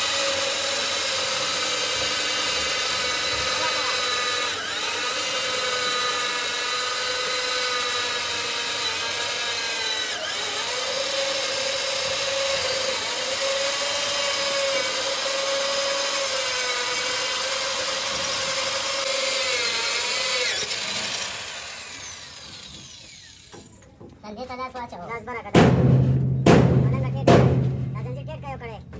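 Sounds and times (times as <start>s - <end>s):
power tool motor whining: 0.0s - 23.9s.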